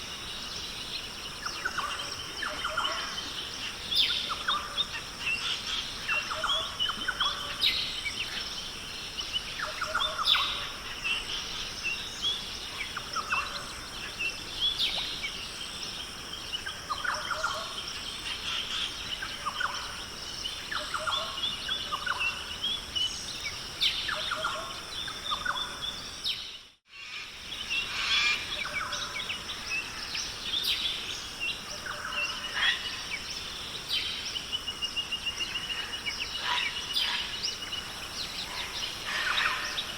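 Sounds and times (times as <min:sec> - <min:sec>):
birds calling and chirping: 0:00.0 - 0:39.9.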